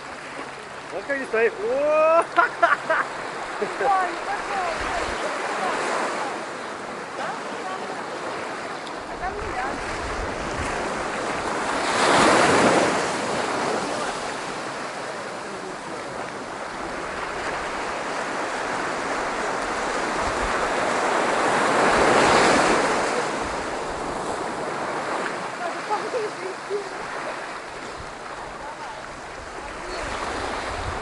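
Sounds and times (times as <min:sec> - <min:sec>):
waves breaking loudly: 0:00.0 - 0:31.0
waves washing on a beach: 0:00.0 - 0:31.0.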